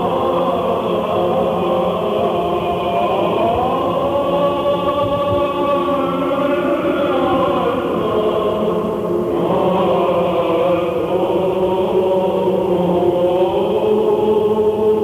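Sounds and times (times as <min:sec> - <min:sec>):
steady vocal drone: 0:00.0 - 0:15.0
voices chanting long gliding notes: 0:00.0 - 0:15.0.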